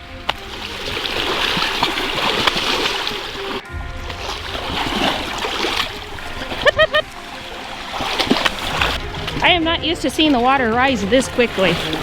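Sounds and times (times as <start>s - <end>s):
cattle splashing through water: 0.0s - 12.0s
quiet background music: 0.0s - 12.0s.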